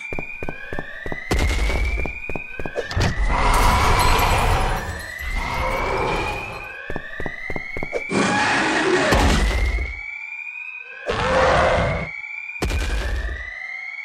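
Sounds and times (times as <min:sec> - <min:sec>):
whooping alarm siren: 0:00.0 - 0:14.0.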